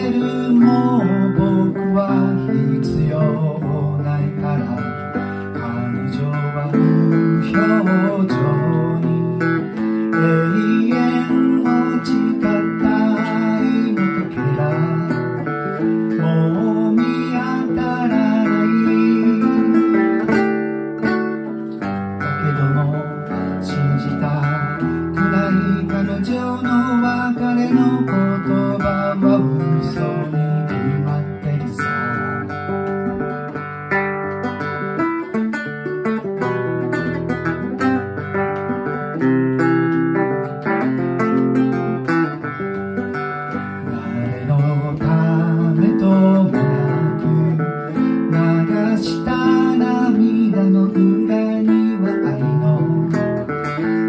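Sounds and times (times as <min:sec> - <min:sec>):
man singing: 0:00.0 - 0:35.6, 0:36.4 - 0:54.0
acoustic guitar strumming: 0:00.0 - 0:54.0.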